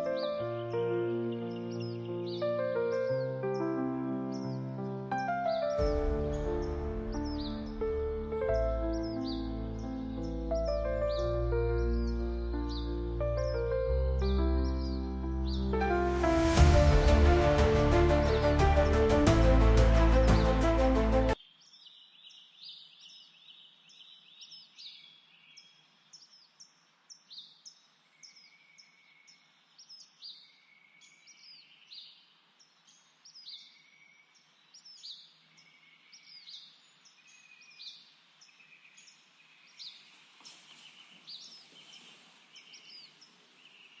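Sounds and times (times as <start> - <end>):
small birds chirping: 0.0 - 15.9, 21.3 - 44.0.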